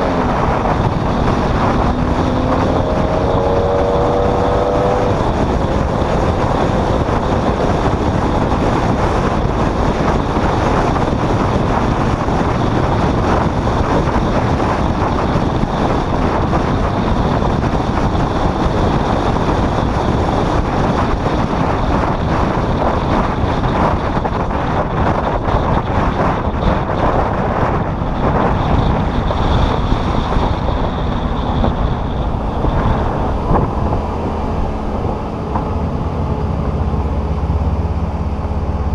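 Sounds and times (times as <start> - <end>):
vehicle road noise at speed: 0.0 - 38.9
wind buffeting microphone: 0.0 - 38.9.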